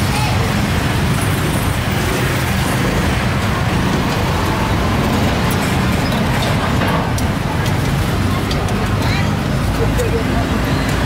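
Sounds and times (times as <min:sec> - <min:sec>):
traffic and idling engines rumble: 0:00.0 - 0:11.0.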